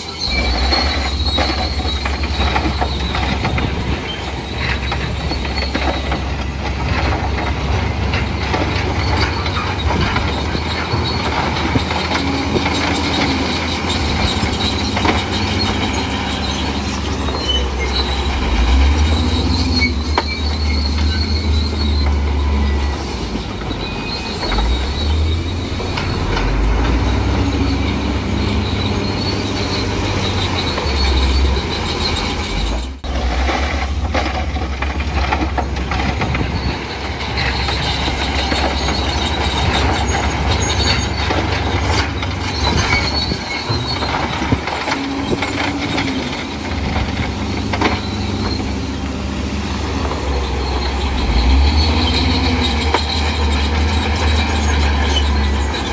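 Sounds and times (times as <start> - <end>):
diesel engine running: 0.0 - 55.9
steel tracks clanking and grinding: 0.0 - 55.9.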